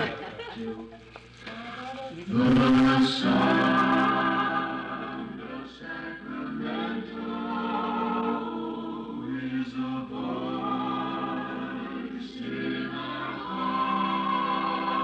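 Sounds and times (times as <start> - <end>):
vocal group singing in harmony: 0.0 - 15.0.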